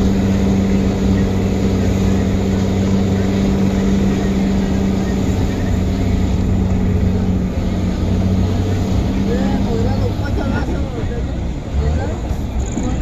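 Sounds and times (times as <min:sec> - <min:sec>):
travel noise rumble: 0:00.0 - 0:13.0
vehicle engine humming: 0:00.0 - 0:13.0.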